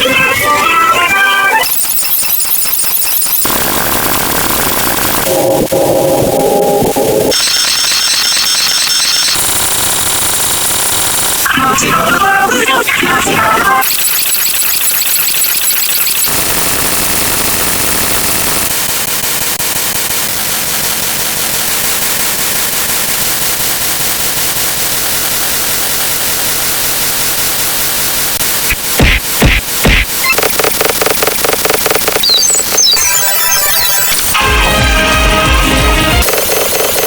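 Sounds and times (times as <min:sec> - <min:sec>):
harsh static noise: 0:00.0 - 0:37.0.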